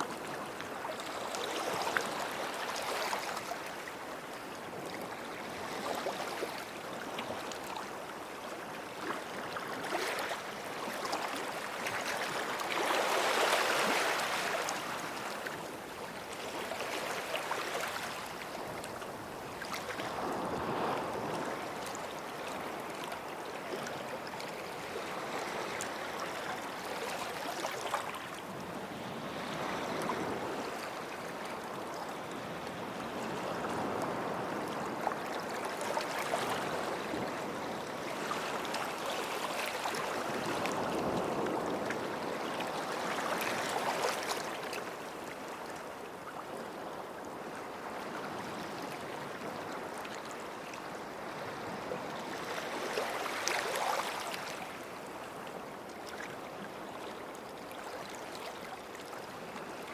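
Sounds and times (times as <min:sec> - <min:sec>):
small waves washing ashore: 0:00.0 - 0:59.9.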